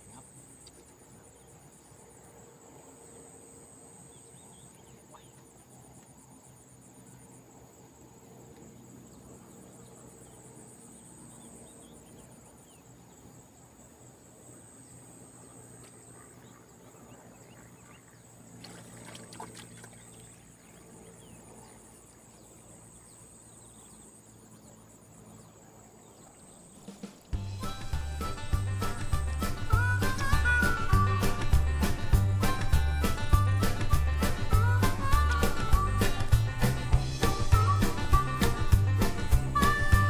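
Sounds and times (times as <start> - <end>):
insects buzzing and trilling: 0.0 - 40.0.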